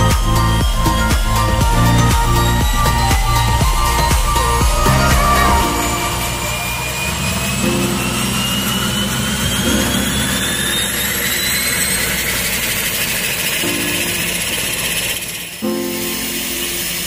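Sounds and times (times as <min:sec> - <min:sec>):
turbine engine whine rising: 0:00.0 - 0:17.0.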